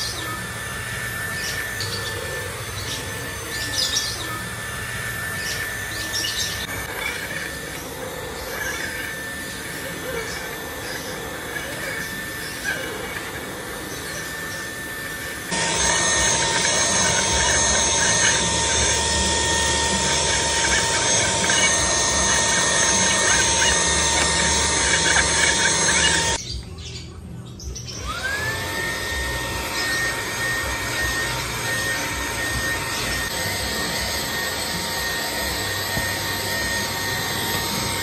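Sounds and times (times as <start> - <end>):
handheld vacuum cleaner whining: 0.0 - 26.5, 27.9 - 38.0.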